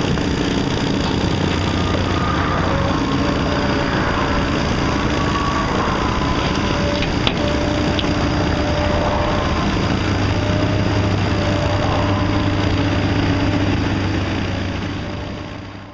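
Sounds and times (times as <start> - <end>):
construction equipment engine running: 0.0 - 15.9.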